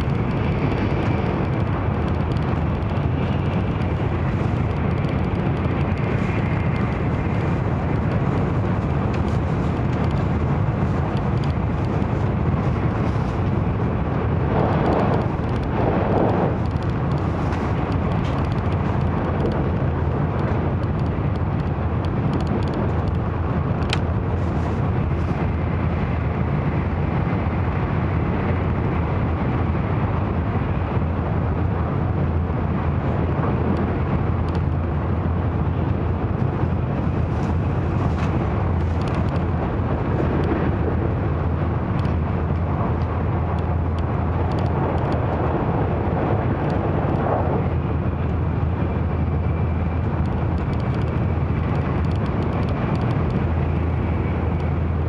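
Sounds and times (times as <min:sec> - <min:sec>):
train cabin rumble and hiss: 0:00.0 - 0:55.0.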